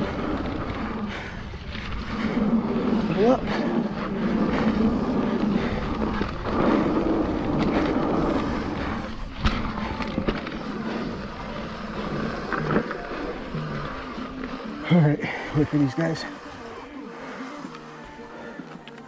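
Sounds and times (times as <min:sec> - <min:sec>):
bike tyres rattling on dirt: 0:00.0 - 0:18.0.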